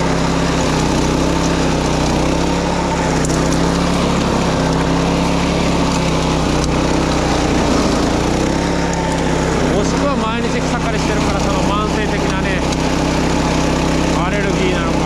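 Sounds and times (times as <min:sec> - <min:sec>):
small petrol engine running: 0:00.0 - 0:15.0.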